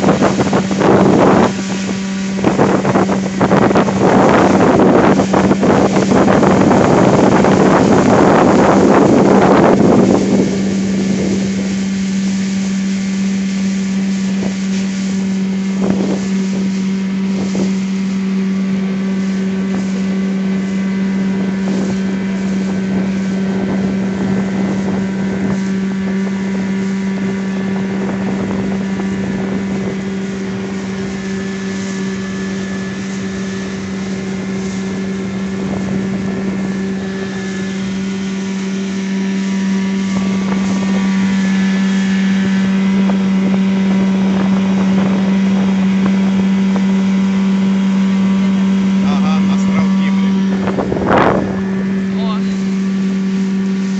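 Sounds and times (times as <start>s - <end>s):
outboard motor running: 0.0s - 53.9s.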